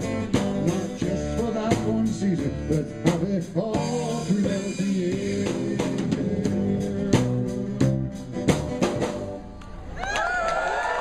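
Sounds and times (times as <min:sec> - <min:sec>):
live band playing: 0:00.0 - 0:09.9.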